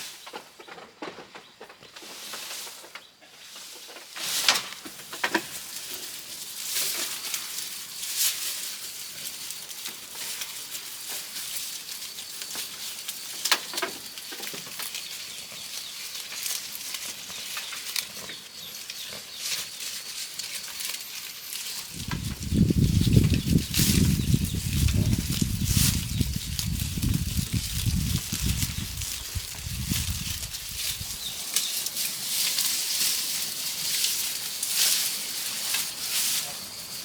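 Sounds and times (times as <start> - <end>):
leaves rustling and crackling: 2.0 - 37.0.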